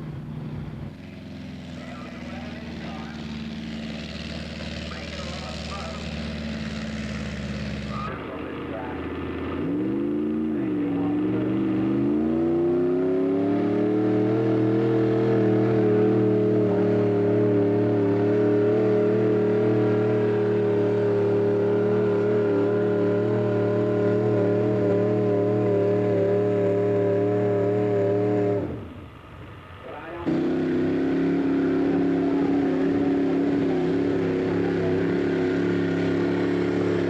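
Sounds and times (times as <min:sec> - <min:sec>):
tractor engine at full throttle: 0:00.0 - 0:37.0.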